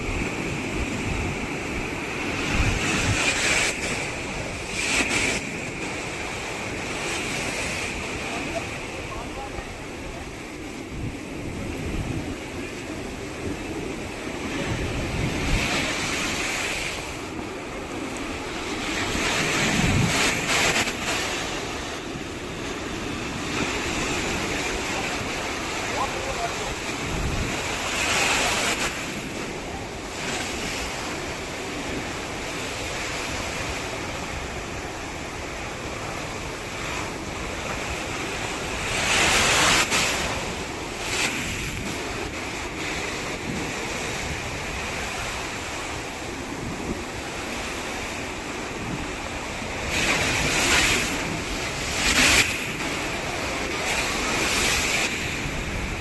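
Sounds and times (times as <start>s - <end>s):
ocean surf on beach: 0.0s - 56.0s
waves breaking: 0.0s - 56.0s.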